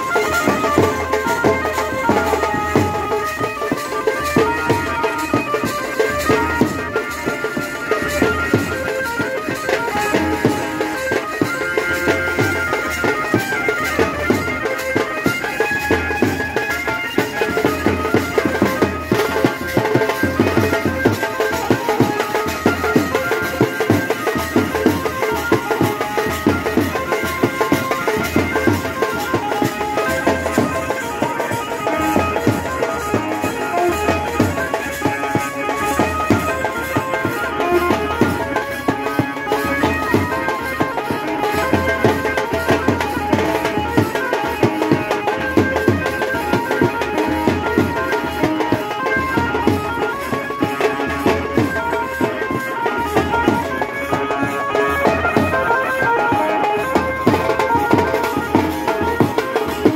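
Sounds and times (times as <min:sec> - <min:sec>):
band playing folk melody: 0:00.0 - 0:59.9
drums beaten in fast rhythm: 0:00.0 - 0:59.9.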